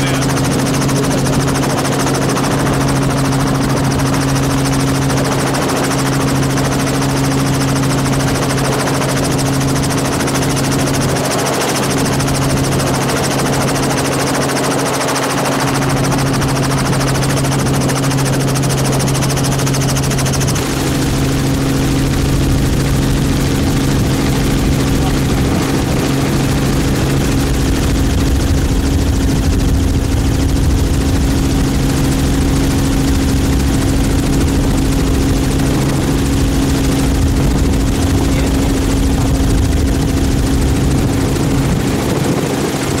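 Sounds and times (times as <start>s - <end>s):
helicopter rotor and engine drone: 0.0s - 43.0s.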